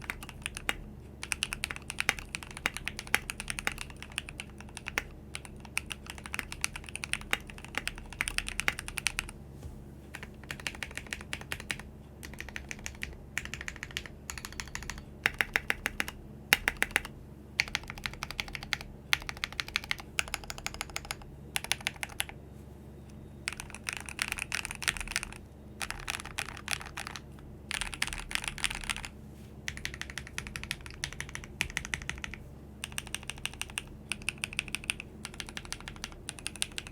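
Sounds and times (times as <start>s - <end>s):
mechanical keyboard typing: 0.0s - 9.3s, 10.1s - 22.4s, 23.4s - 29.1s, 29.7s - 36.9s.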